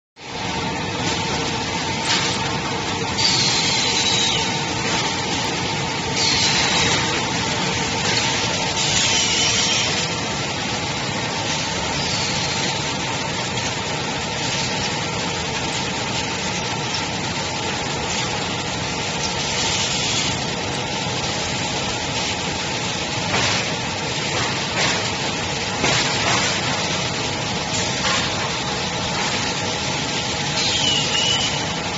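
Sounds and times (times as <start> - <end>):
machine running: 0.2 - 31.9.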